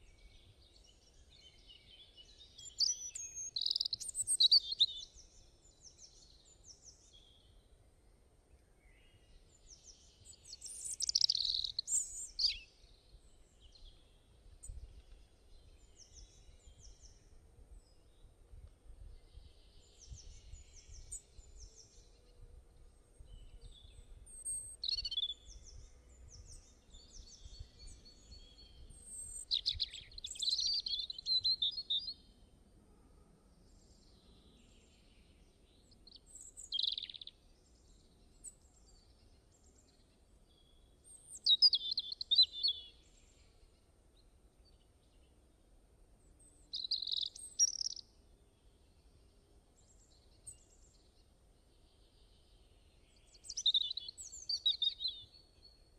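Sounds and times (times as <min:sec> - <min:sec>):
faint low background noise: 0:00.0 - 0:55.9
songbirds chirping: 0:00.0 - 0:55.9.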